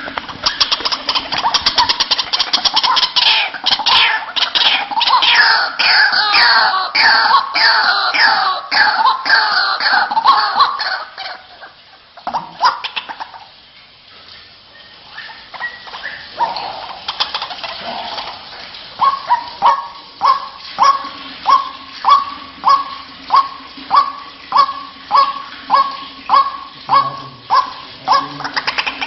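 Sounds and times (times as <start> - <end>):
waterhen calling harsh notes: 0.0 - 13.7, 14.6 - 29.0.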